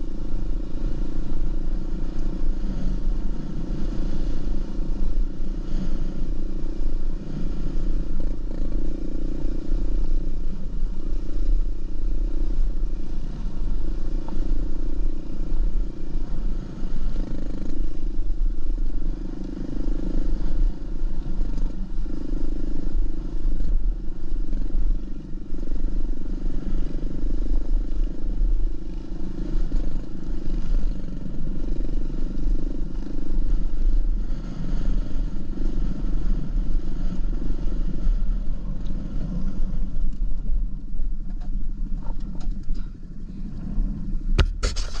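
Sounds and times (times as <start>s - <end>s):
dirt bike engine running: 0.0s - 42.7s, 43.7s - 45.0s.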